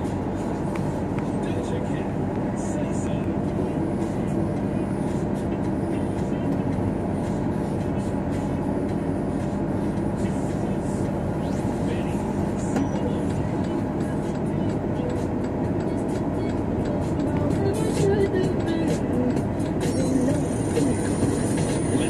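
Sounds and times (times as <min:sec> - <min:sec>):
car driving interior drone: 0:00.0 - 0:22.0
tyre and engine noise: 0:00.0 - 0:22.0.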